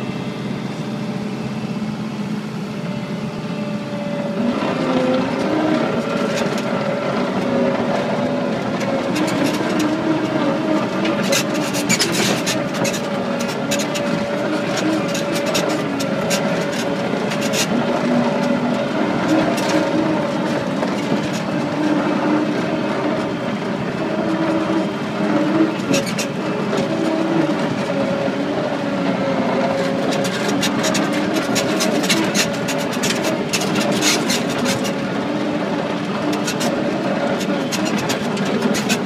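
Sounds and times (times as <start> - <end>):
vehicle engine drone with whine: 0.0 - 39.0
rattles and clicks: 4.6 - 28.3, 29.6 - 39.0.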